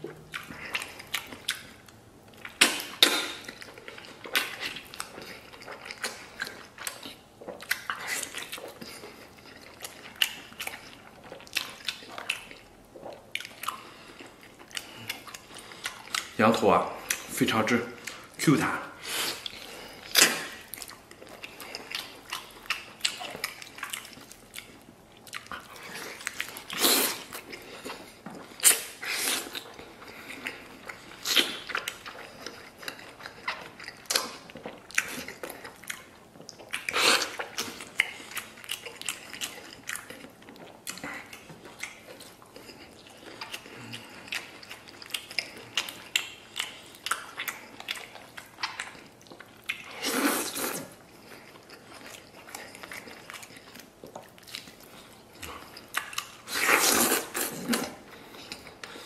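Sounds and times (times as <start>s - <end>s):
person chewing meat: 0.0s - 59.0s.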